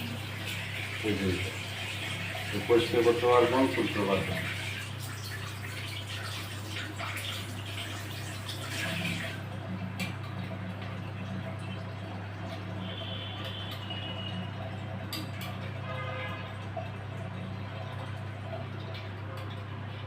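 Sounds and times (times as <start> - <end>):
water running from tap: 0.0 - 20.0.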